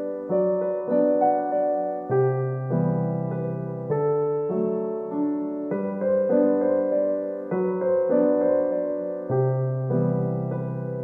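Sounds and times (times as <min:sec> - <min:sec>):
gentle solo piano music: 0:00.0 - 0:11.0.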